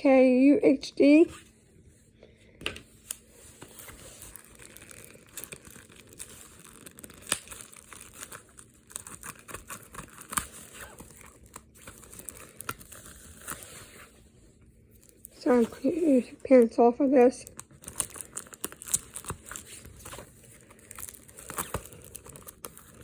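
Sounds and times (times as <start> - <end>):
plastic shrink wrap crinkling and tearing: 2.8 - 23.0.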